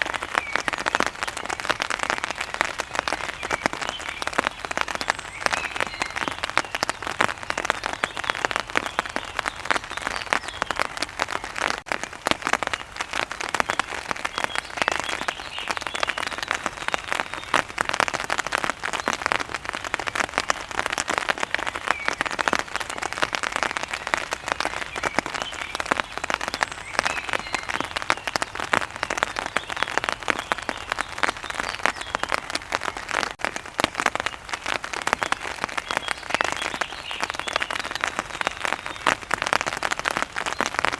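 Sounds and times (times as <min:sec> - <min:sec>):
heavy rain on hard surface: 0:00.0 - 0:40.9.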